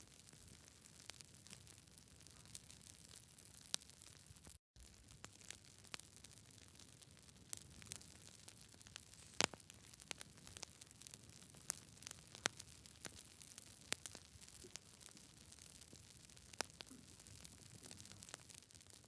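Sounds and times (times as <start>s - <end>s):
campfire crackling: 0.2s - 19.0s.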